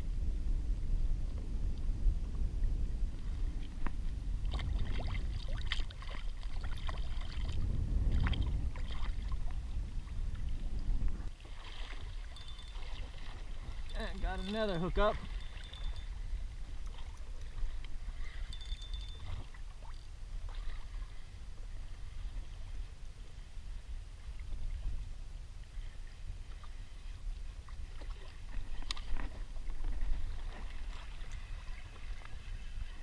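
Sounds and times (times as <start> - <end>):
wind buffeting microphone: 0.0 - 33.0
water splashing against kayak: 2.8 - 33.0.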